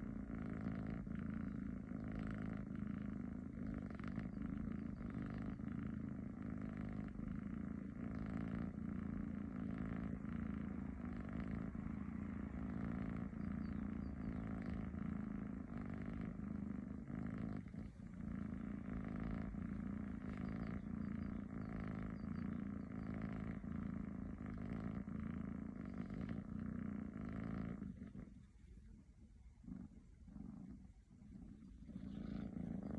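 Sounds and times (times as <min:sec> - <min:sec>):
cat snoring: 0:00.0 - 0:32.9.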